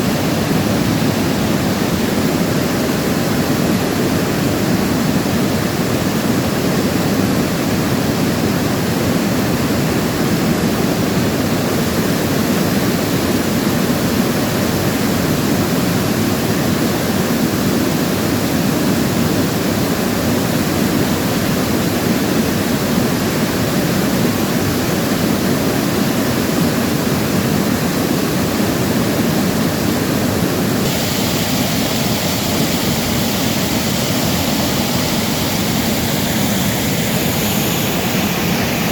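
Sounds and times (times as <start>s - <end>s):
stream spilling over small falls: 0.0s - 38.9s.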